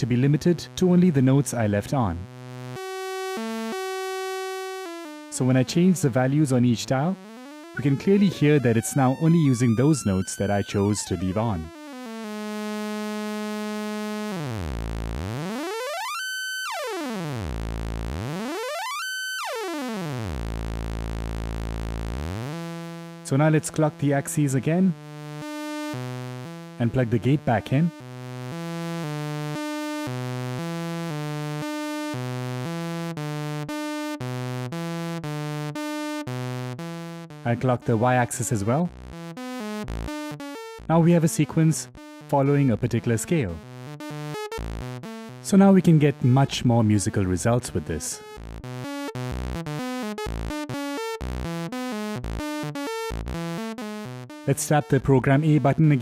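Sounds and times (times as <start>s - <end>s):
analog synth sequence: 2.2s - 56.0s.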